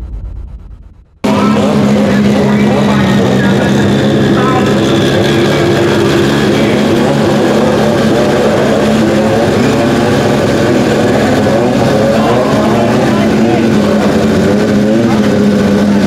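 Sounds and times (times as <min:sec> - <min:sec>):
truck engine idling loudly: 0:00.0 - 0:16.0.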